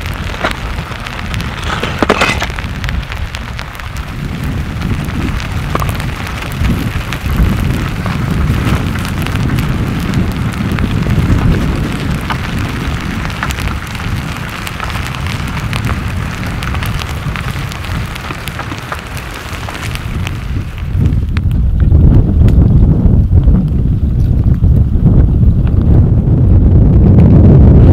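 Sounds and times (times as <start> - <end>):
sharp clicks and pops: 0.0 - 26.1
lava crust scraping and crackling: 0.0 - 27.9
steady low noise: 0.0 - 27.9.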